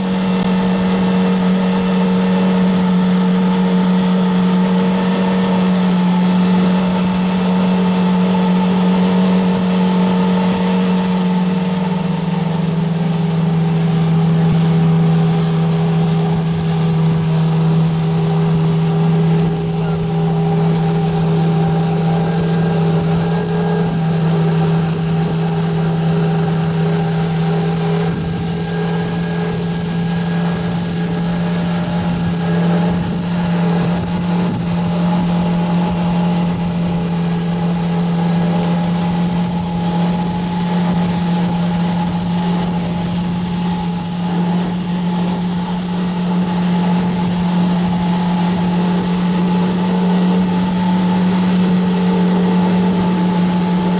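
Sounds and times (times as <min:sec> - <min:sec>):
outboard engine humming: 0:00.0 - 0:53.9
wind and water rushing: 0:00.0 - 0:53.9.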